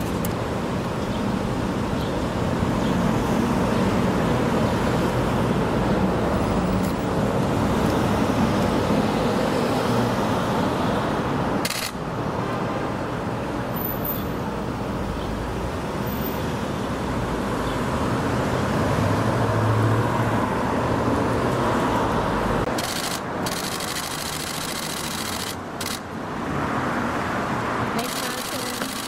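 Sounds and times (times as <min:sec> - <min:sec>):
passing cars hum and hiss: 0:00.0 - 0:29.0.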